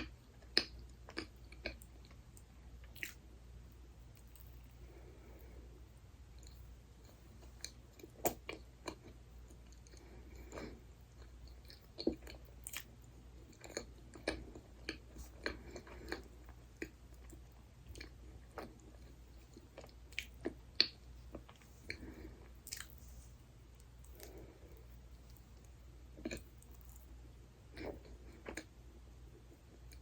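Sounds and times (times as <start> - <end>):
chewing soft dessert: 0.0 - 30.0.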